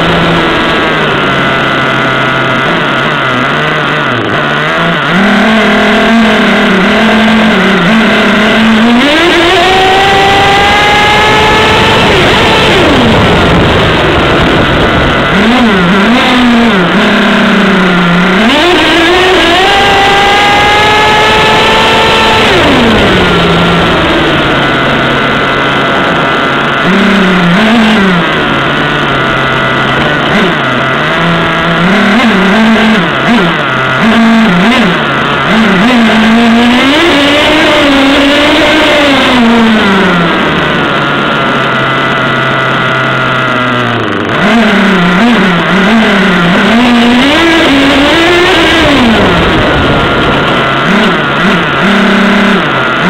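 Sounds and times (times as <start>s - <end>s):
model truck engine revving: 0.0s - 53.0s.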